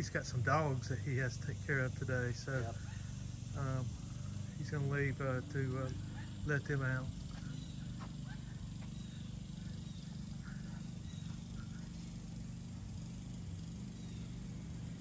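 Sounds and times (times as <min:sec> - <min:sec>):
low mechanical hum with flutter: 0:00.0 - 0:15.0.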